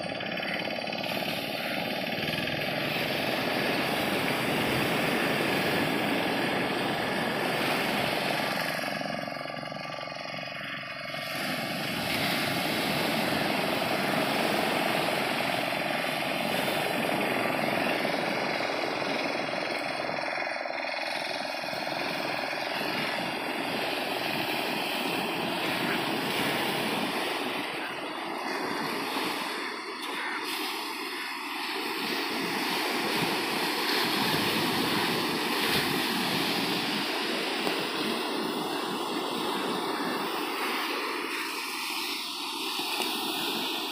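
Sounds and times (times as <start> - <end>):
sea surf breaking on shore: 0.0 - 43.9.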